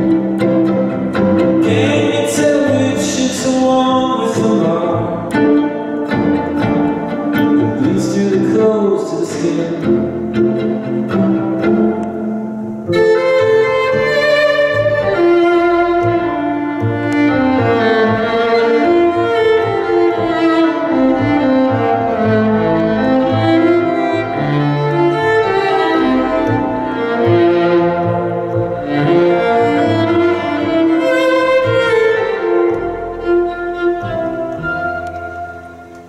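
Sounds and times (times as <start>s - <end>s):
bowed violin melody: 0.0s - 36.0s
low sustained string notes: 0.0s - 36.0s.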